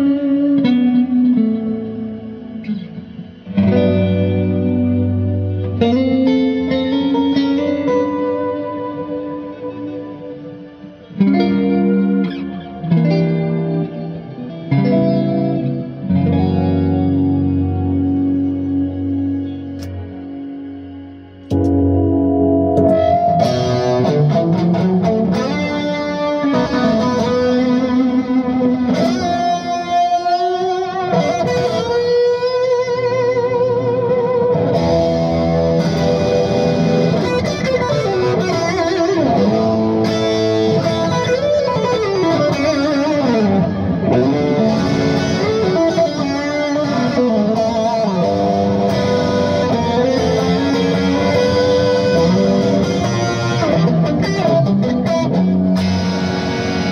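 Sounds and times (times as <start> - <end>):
electric guitar lead lines: 0.0 - 56.9.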